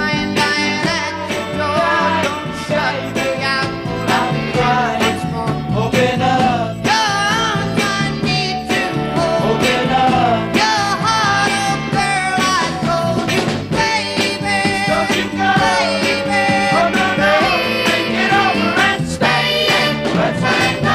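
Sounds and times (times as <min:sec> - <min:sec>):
song with singing over a beat: 0:00.0 - 0:20.9.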